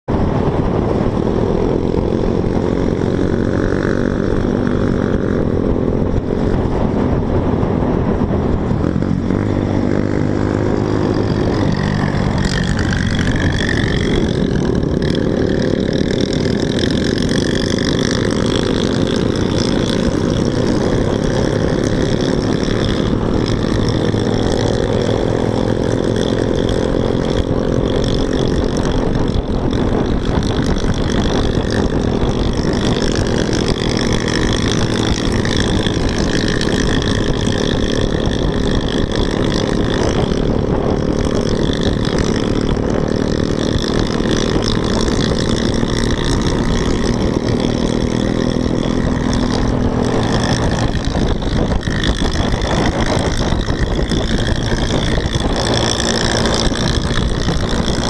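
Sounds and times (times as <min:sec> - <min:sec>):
scooter engine running: 0:00.0 - 0:58.0
wind rushing over microphone: 0:00.0 - 0:58.0.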